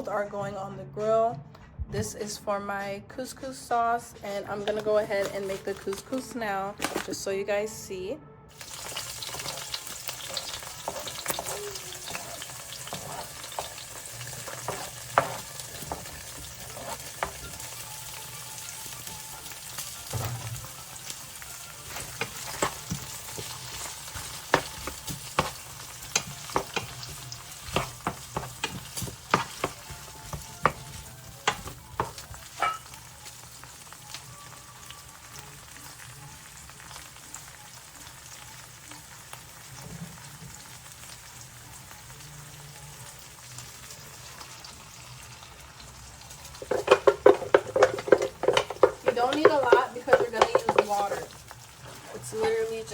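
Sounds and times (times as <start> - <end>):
food sizzling in hot oil: 8.5 - 52.9.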